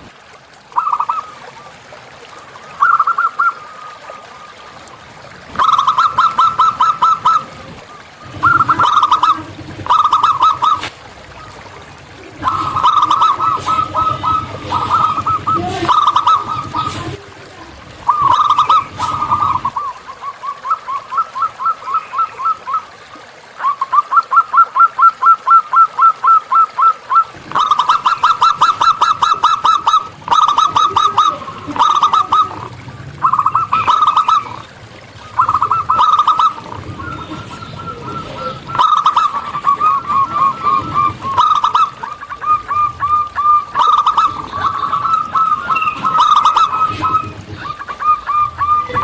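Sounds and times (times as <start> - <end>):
doves cooing rapidly: 0.0 - 49.0.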